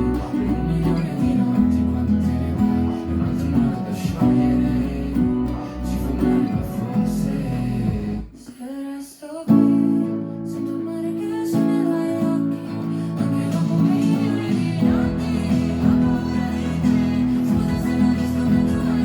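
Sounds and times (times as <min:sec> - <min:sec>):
guitar playing sustained chords: 0:00.0 - 0:08.3, 0:09.5 - 0:19.0.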